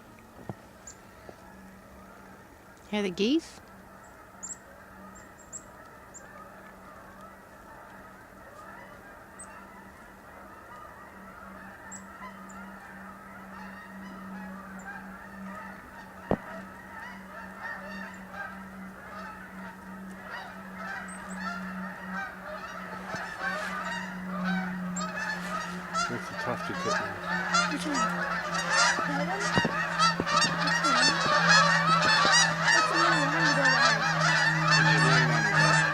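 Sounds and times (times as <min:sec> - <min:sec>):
geese honking: 0:00.0 - 0:35.9.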